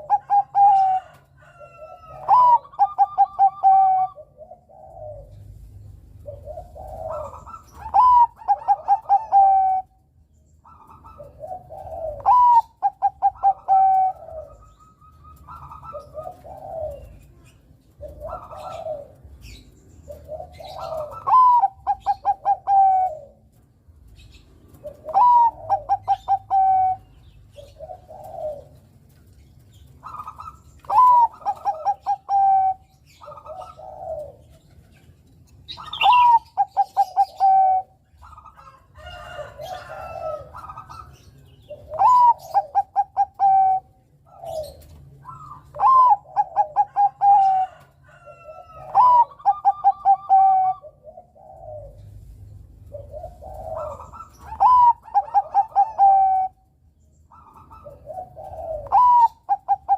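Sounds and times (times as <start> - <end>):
dove cooing song phrases: 0.0 - 59.9.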